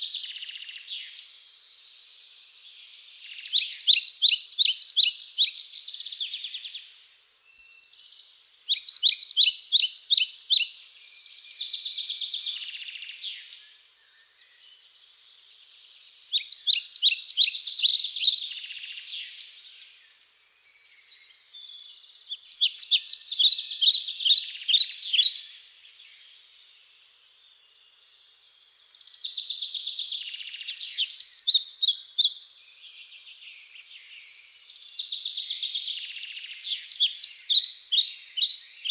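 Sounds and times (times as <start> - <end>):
bird chirps and calls: 3.2 - 14.9, 15.7 - 19.9, 20.5 - 26.1, 28.6 - 38.9.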